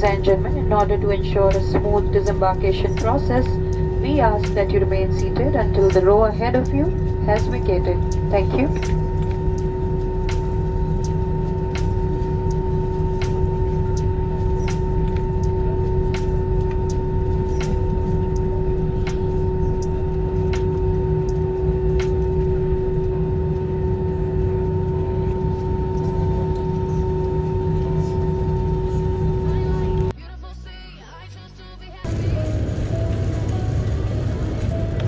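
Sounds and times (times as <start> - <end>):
airliner cabin rumble: 0.0 - 30.1, 32.1 - 35.0
two-pitched whine: 0.0 - 30.1.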